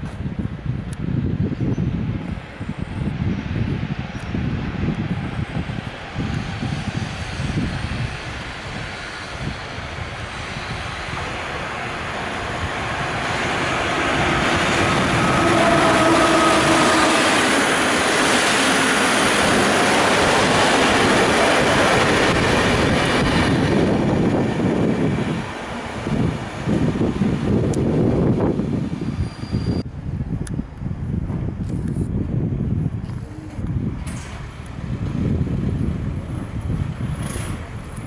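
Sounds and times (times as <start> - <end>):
train wheels rushing on rail: 0.0 - 29.9, 30.5 - 38.0
wind buffeting microphone: 0.0 - 38.0
locomotive drive whine: 1.6 - 38.0.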